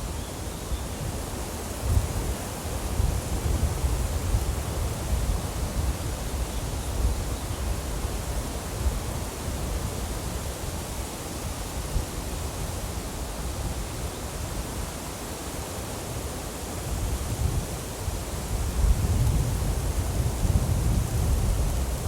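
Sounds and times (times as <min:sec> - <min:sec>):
rushing nature ambience: 0:00.0 - 0:18.9.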